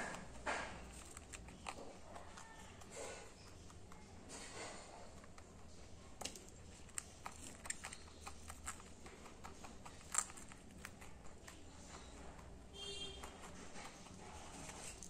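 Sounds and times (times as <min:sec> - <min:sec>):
rabbit crunching puffed rice: 0:00.0 - 0:15.0.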